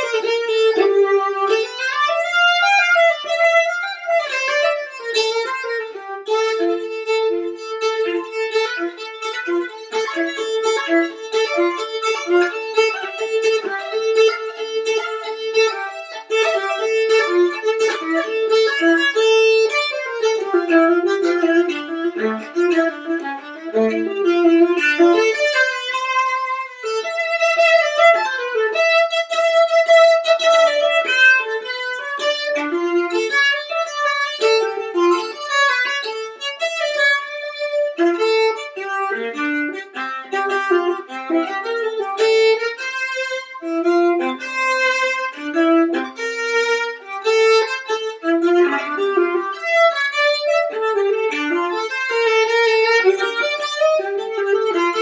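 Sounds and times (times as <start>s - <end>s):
viola playing fast bowed notes: 0.0s - 55.0s.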